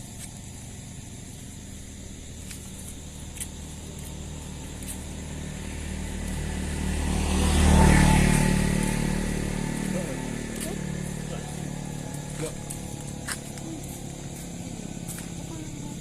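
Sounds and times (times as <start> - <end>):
vehicle passing by: 1.8 - 16.0.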